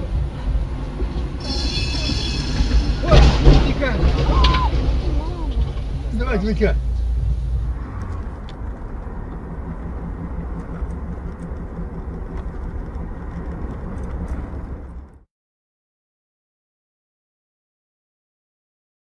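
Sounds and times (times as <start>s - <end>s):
car driving road noise: 0.0s - 15.3s.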